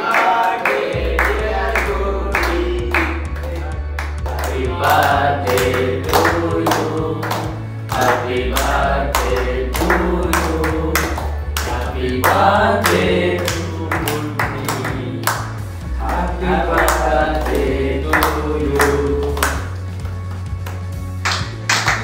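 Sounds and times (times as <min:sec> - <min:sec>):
men singing together: 0:00.0 - 0:03.4, 0:04.2 - 0:19.8
rhythmic clapping: 0:00.0 - 0:22.0
music with bass line: 0:00.8 - 0:22.0.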